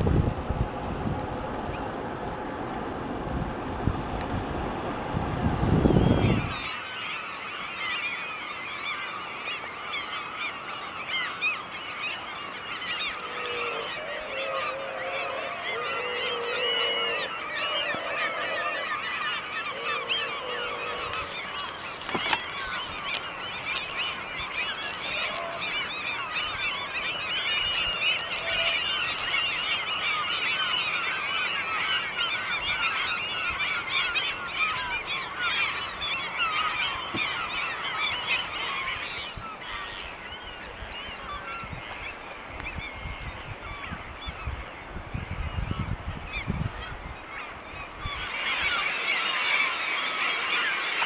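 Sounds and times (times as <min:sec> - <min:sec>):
flock of gulls calling: 0:05.7 - 0:51.0.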